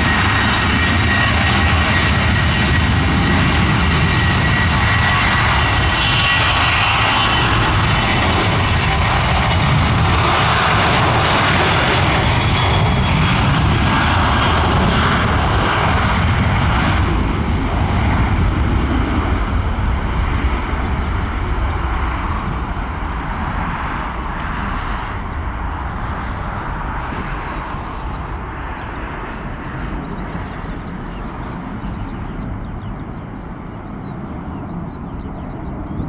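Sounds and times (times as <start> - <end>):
jet engines at takeoff power: 0.0 - 36.0.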